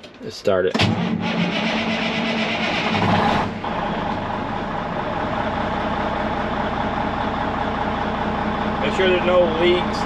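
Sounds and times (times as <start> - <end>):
diesel engine idling: 1.1 - 10.0.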